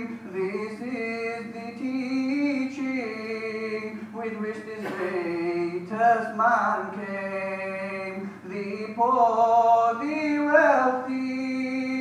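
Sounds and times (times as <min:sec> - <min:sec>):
man singing melismatic notes: 0:00.0 - 0:12.0.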